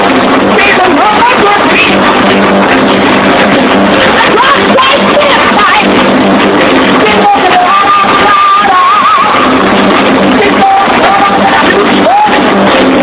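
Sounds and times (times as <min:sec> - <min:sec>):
heavy metal band playing live: 0:00.0 - 0:13.0.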